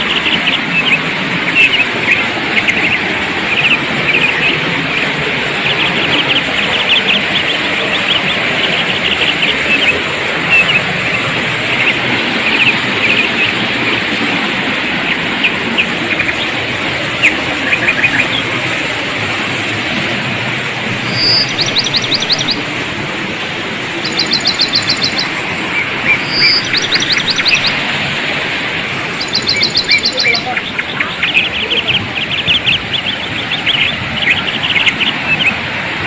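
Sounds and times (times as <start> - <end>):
birds chirping: 0.0 - 36.0
steady rushing noise: 0.0 - 36.0.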